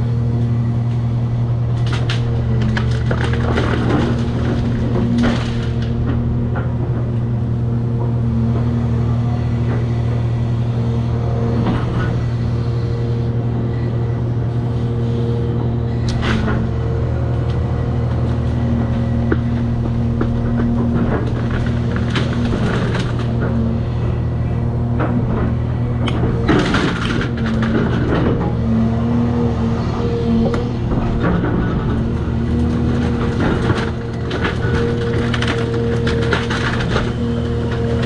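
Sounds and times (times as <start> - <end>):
excavator diesel engine under load: 0.0 - 38.0.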